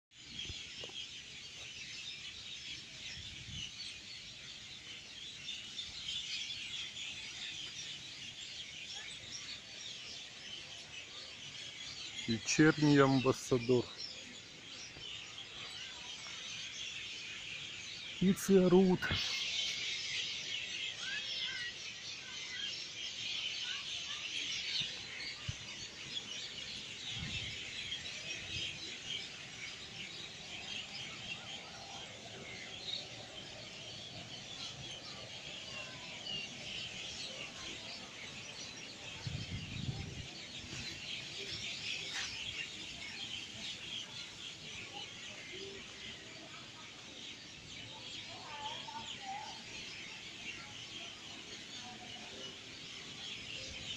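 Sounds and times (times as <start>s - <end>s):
crowd of birds chirping: 0.1s - 53.9s.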